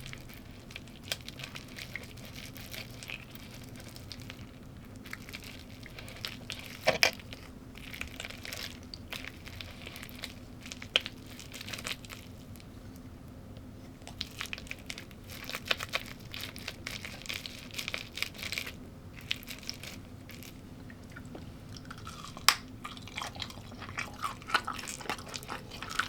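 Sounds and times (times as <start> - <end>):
chewing and crunching food: 0.0 - 26.0.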